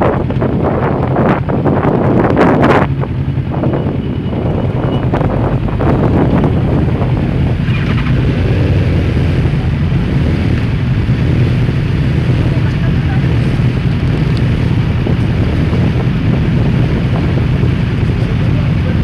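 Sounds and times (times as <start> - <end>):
motorcycle engines idling: 0.0 - 19.0
wind hitting microphone: 0.0 - 19.0.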